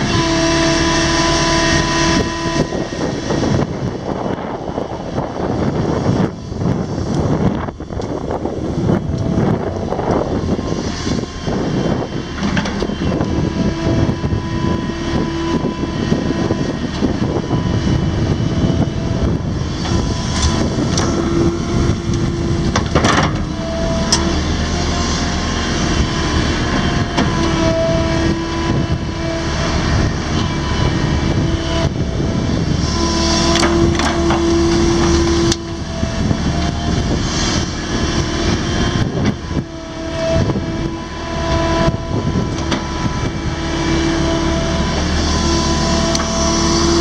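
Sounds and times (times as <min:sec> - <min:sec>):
excavator diesel engine running: 0:00.0 - 0:47.0
hydraulic whine: 0:00.0 - 0:47.0.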